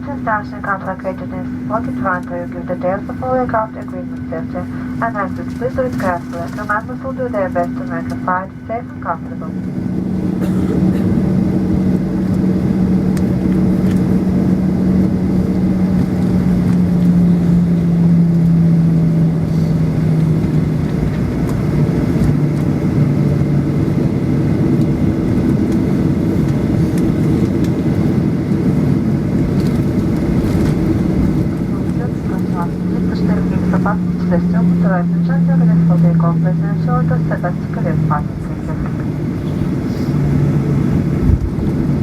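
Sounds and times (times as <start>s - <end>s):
jet engines humming: 0.0s - 42.0s.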